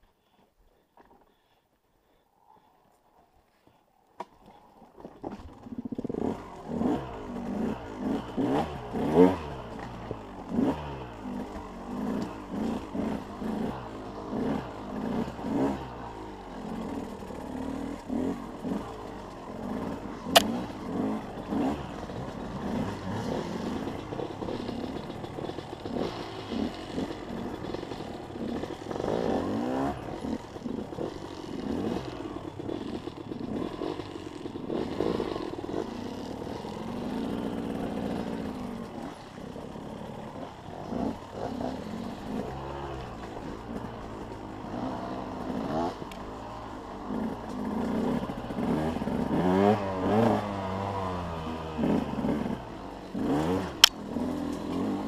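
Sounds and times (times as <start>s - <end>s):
motorcycle engine revving: 5.2s - 55.0s.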